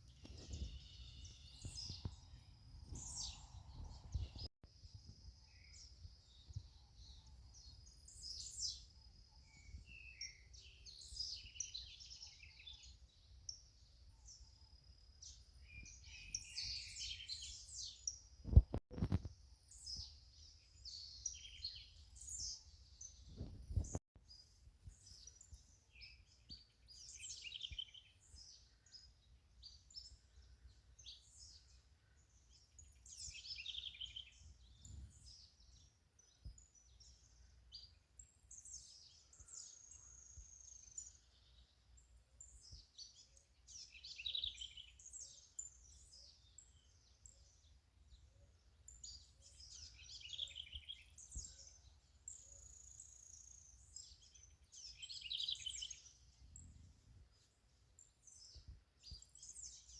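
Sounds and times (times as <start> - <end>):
birds singing: 0.0 - 14.6, 15.2 - 24.4, 25.0 - 59.9.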